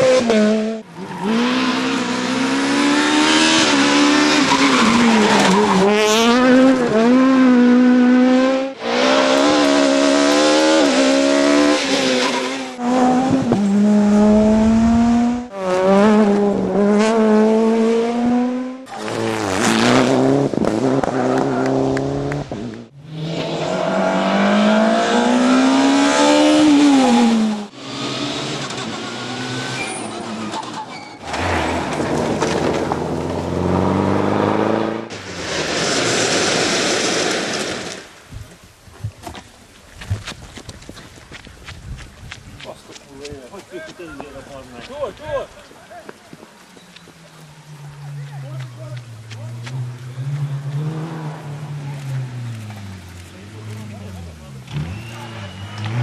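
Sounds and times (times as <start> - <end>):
rally car engines revving: 0.0 - 38.0, 47.2 - 56.0.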